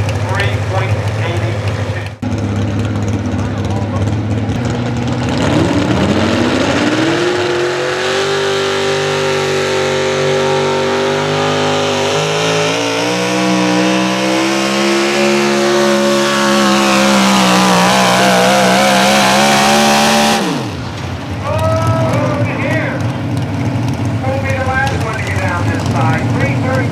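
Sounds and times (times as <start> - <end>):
truck engine at full throttle: 0.0 - 26.9.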